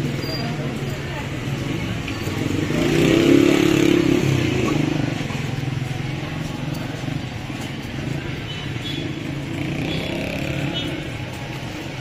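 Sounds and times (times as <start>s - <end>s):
city hum: 0.0s - 12.0s.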